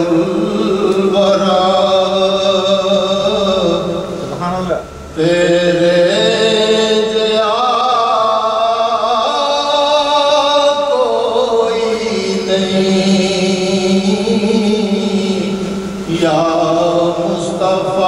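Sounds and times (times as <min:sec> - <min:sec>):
man singing devotional song: 0:00.0 - 0:04.3, 0:05.2 - 0:18.0.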